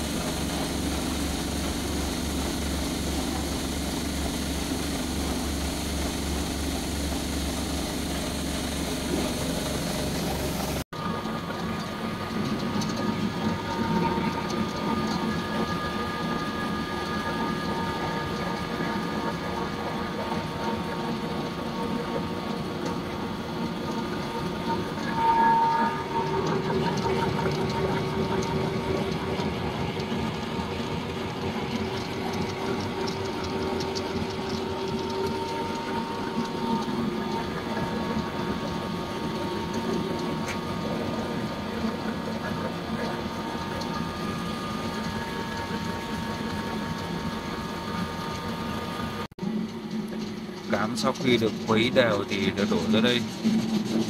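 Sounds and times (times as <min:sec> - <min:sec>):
machine whining tones: 0:00.0 - 0:54.0
pellet mill machinery clatter: 0:00.0 - 0:54.0.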